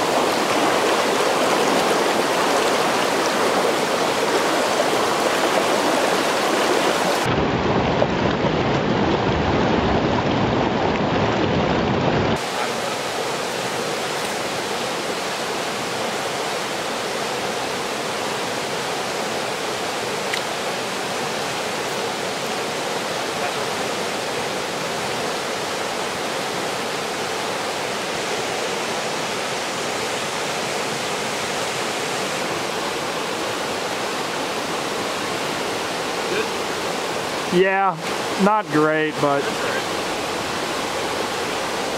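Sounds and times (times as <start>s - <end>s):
stream rushing over stones: 0.0s - 41.9s.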